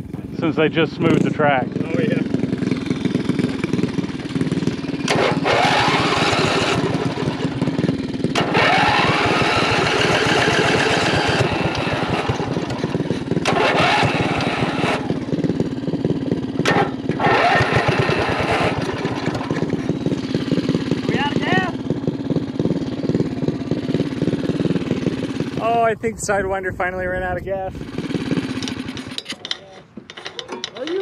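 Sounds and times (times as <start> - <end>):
small engine revving: 0.0 - 25.8, 27.1 - 29.2.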